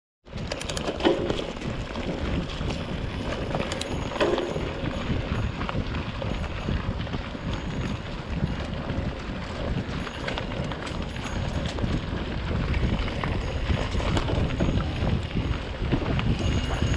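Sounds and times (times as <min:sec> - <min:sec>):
bicycle tyres crunching on gravel: 0:00.3 - 0:16.9
bike rattling: 0:00.3 - 0:16.9
wind buffeting microphone: 0:00.3 - 0:16.9.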